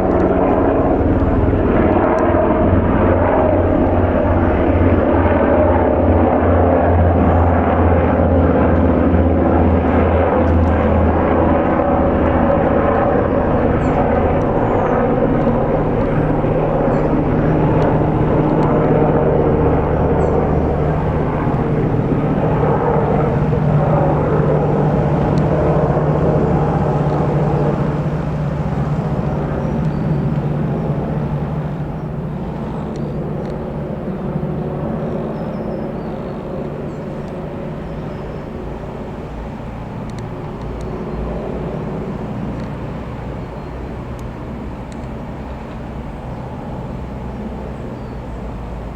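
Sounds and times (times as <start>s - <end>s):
helicopter flying past: 0.0s - 48.9s.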